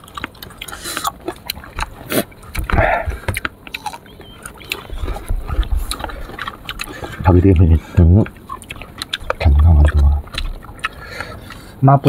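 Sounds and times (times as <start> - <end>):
person chewing crunchy fruit: 0.0 - 12.0.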